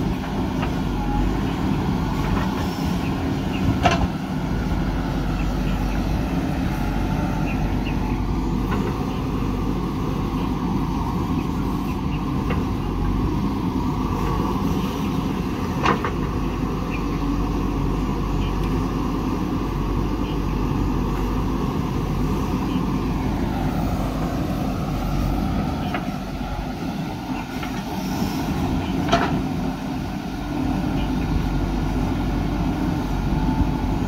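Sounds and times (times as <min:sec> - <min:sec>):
backhoe digging soil: 0:00.0 - 0:34.0
diesel engine running under load: 0:00.0 - 0:34.0.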